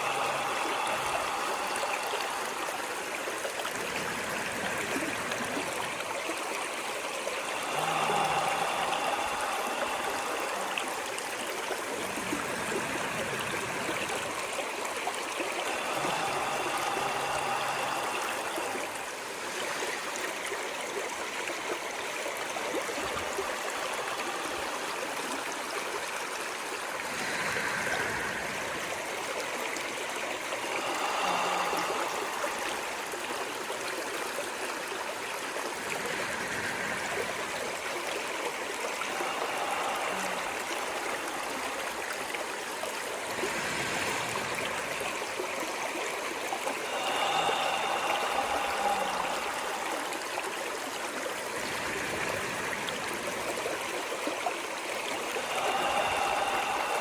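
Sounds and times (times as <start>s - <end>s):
stream of running water gurgling: 0.0s - 57.0s.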